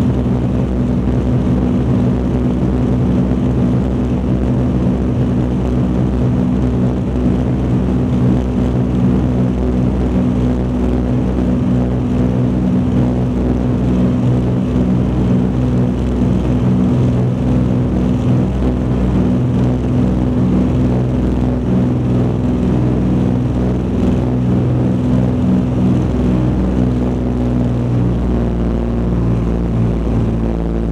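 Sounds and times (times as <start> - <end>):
aircraft piston engines droning: 0.0 - 30.9.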